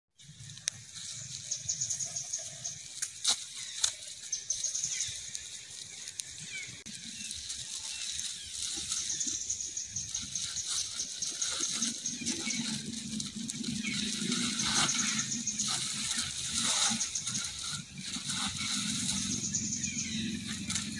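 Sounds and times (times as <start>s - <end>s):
faint rustling: 0.3s - 20.9s.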